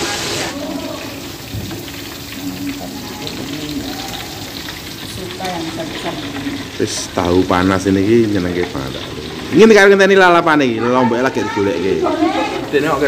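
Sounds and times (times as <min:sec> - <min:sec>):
tofu deep-frying in oil: 0:00.0 - 0:13.0.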